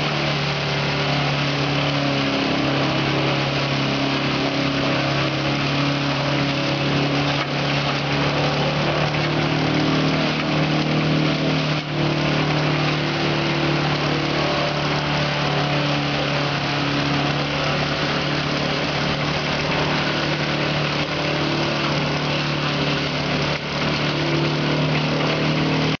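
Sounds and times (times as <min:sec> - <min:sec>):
shredder humming: 0:00.0 - 0:26.0.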